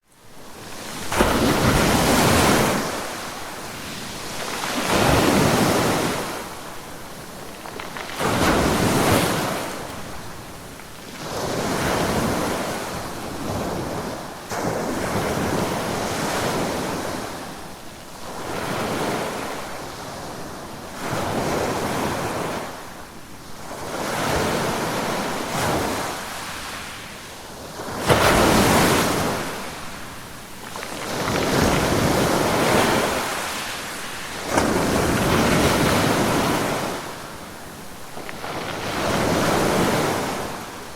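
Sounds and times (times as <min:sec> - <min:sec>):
ocean waves breaking on shore: 0:00.2 - 0:40.9.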